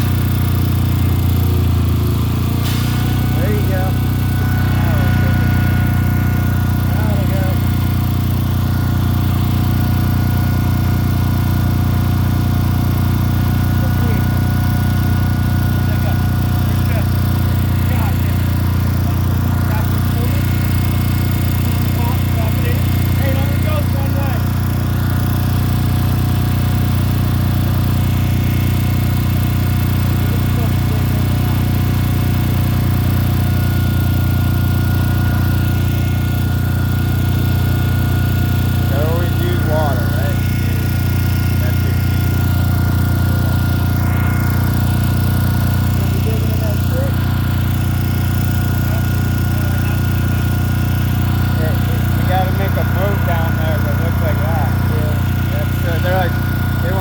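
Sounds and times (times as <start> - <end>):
machine droning with held tone: 0.0 - 57.0.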